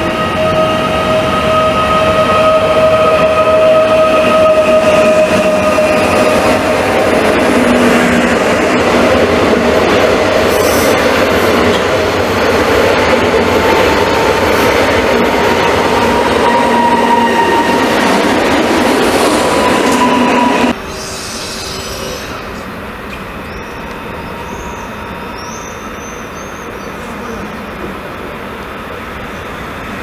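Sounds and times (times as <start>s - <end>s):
distant electric locomotive approaching: 0.0s - 30.0s
electric train passing with whine: 0.0s - 30.0s.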